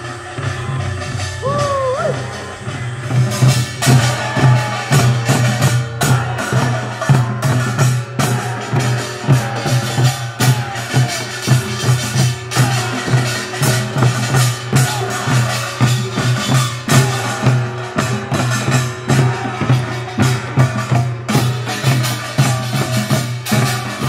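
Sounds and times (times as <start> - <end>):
barrel drums beating: 0.0 - 24.0.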